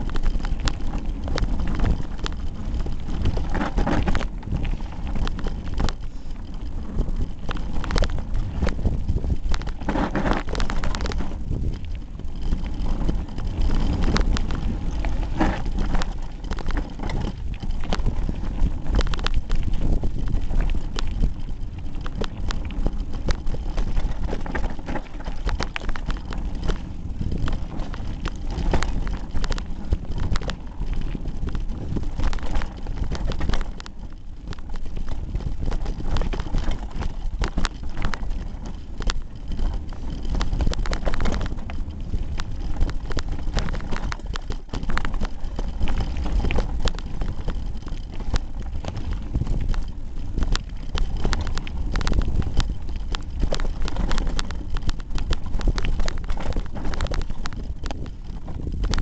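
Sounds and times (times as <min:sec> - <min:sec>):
bike frame rattling and knocking: 0:00.0 - 0:59.0
rumble of wind and tyres: 0:00.0 - 0:59.0.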